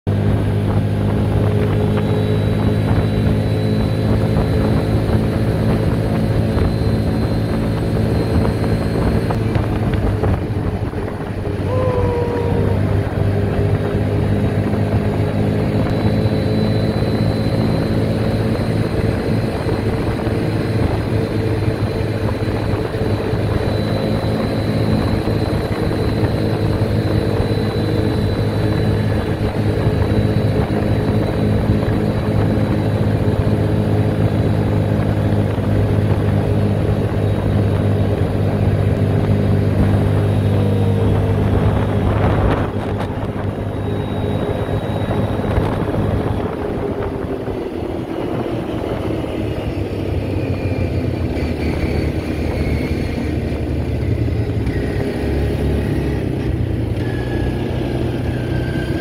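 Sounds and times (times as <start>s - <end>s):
atv engine running: 0.1s - 59.0s
rushing noise: 0.8s - 59.0s.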